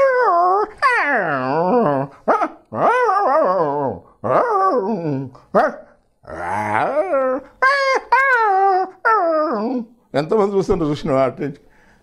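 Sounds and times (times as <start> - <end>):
man imitating dog calls: 0.0 - 10.0.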